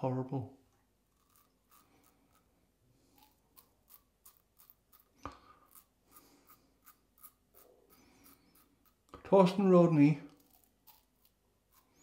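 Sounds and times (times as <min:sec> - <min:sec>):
razor scraping stubble: 0:01.0 - 0:12.0.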